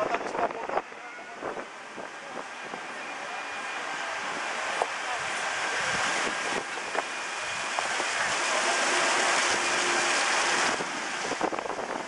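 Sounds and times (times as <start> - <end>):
fountain jets splashing: 0.0 - 12.0.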